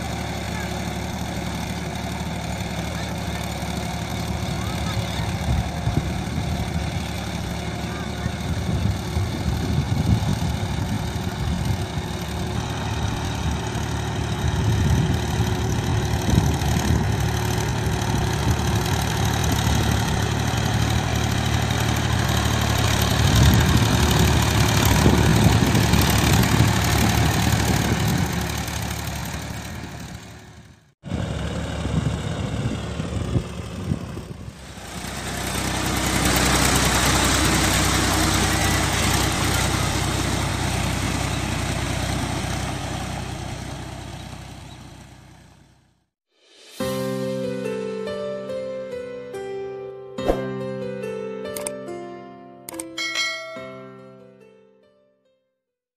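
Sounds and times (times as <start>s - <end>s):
tractor diesel engine running: 0.0s - 46.1s.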